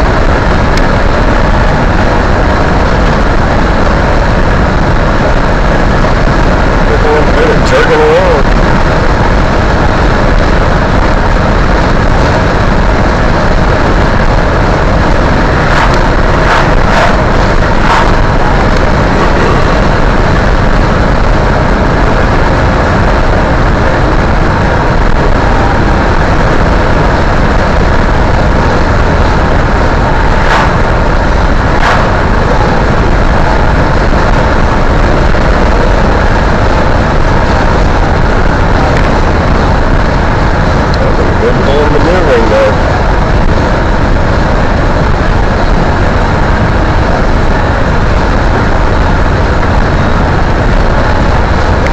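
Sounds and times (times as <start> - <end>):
car road and engine noise: 0.0 - 51.9.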